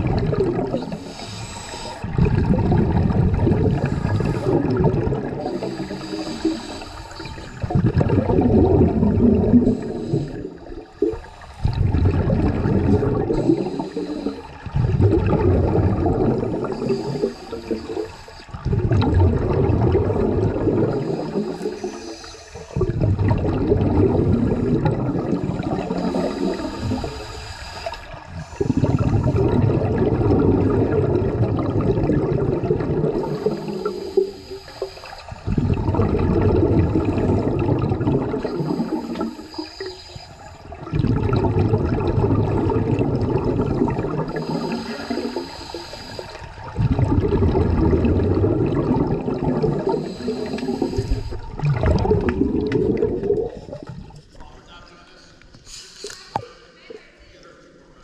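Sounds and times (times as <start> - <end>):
underwater regulator exhaust bubbles: 0.0 - 54.5.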